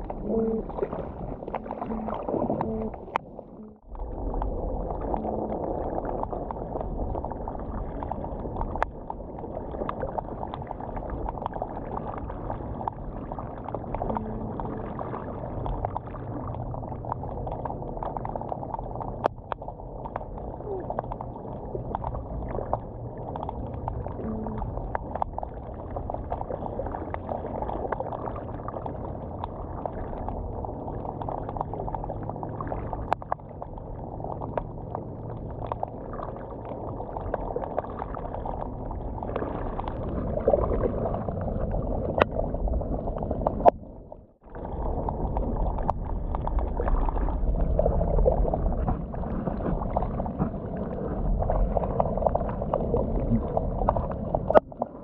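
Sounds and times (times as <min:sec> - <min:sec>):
low pulsing underwater rumble: 0:00.0 - 0:55.0.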